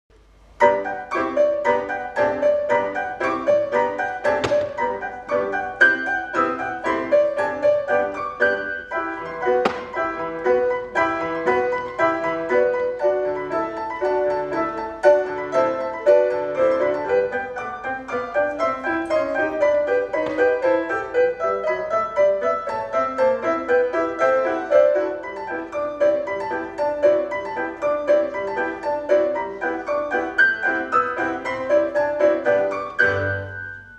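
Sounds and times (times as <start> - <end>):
lively grand piano piece: 0.1 - 33.9.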